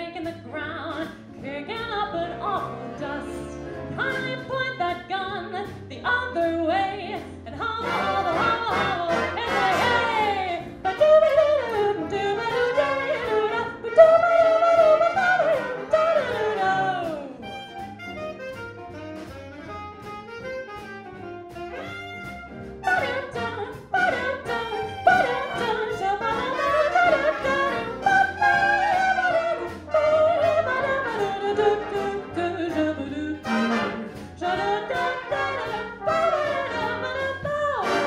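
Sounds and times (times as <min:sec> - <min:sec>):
big band playing swing: 0:00.0 - 0:38.0.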